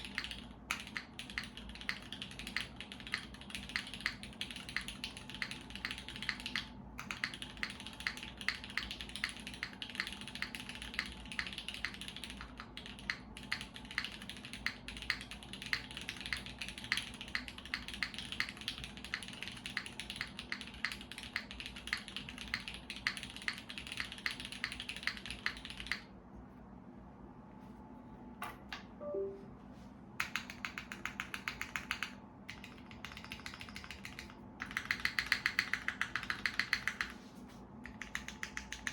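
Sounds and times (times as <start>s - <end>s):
fast mechanical keyboard typing: 0.0s - 26.1s, 30.2s - 37.2s, 37.8s - 38.9s.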